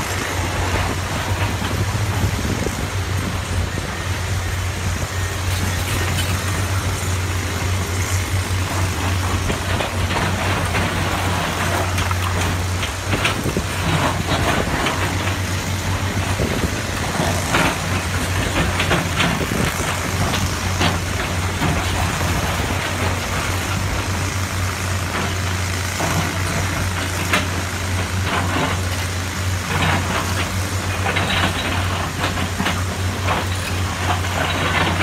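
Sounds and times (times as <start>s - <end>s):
excavator diesel engine droning: 0.0s - 35.0s.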